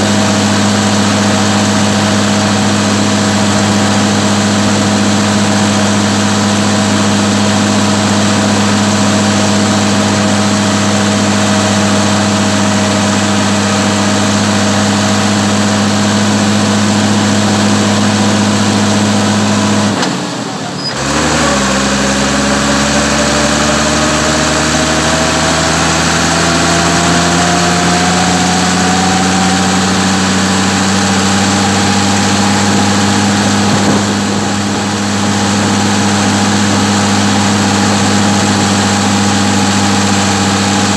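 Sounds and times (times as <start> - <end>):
rising whine: 0.0 - 40.9
tractor diesel engine running: 0.0 - 40.9.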